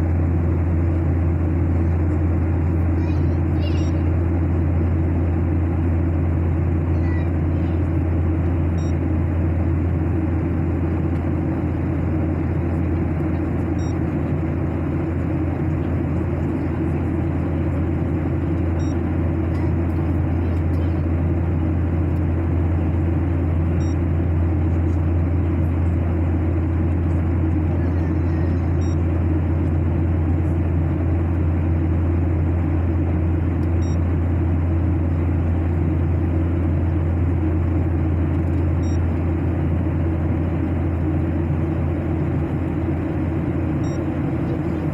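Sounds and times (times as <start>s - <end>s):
aircraft cabin drone: 0.0s - 44.9s.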